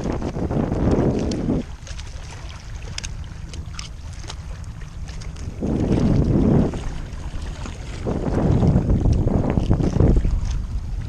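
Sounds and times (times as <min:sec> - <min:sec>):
sea water washing against rocks: 0:00.0 - 0:11.0
wind buffeting microphone: 0:00.0 - 0:11.0.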